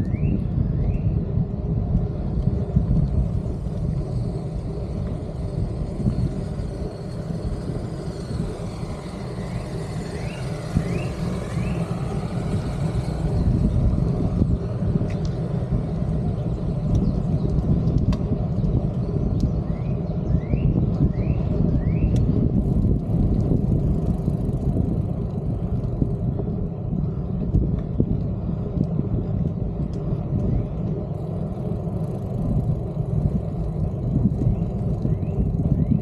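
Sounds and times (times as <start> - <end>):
road noise: 0.0 - 36.0
wind rumble on microphone: 0.0 - 36.0.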